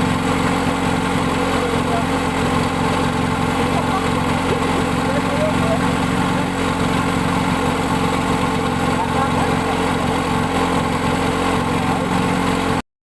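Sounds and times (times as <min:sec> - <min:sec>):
engine running steadily: 0:00.0 - 0:12.8.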